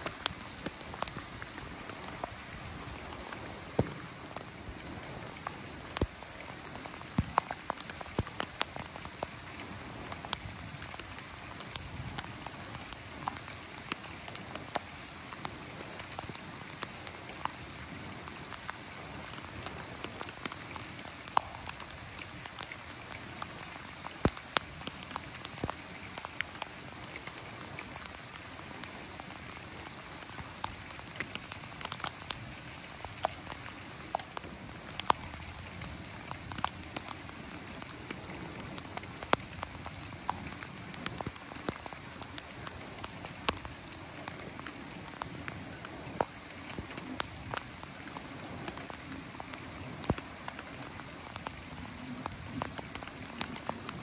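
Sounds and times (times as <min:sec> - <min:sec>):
sharp ticks of raindrops: 0:00.0 - 0:54.0
steady rain hiss: 0:00.0 - 0:54.0.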